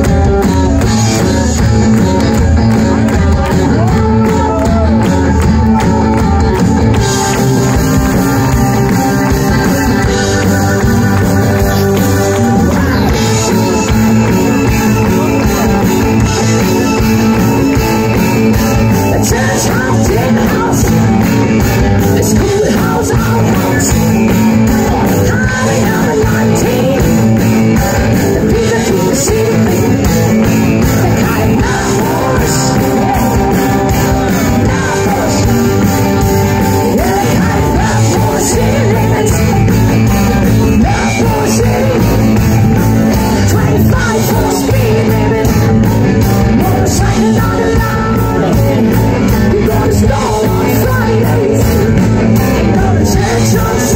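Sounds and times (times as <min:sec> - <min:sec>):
drums: 0:00.0 - 0:53.9
electric guitars: 0:00.0 - 0:53.9
keyboard: 0:00.0 - 0:53.9
lead vocal singing: 0:00.0 - 0:53.9.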